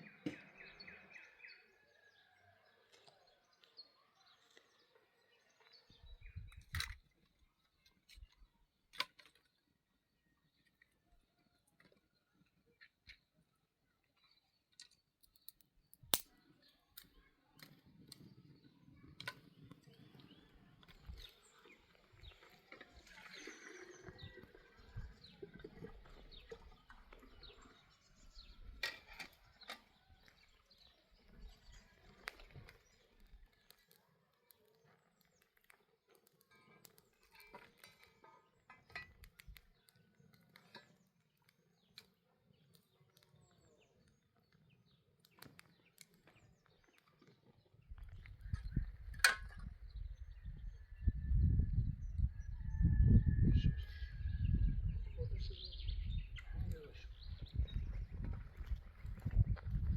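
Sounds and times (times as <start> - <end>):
soft bird chirps: 0.0 - 59.8.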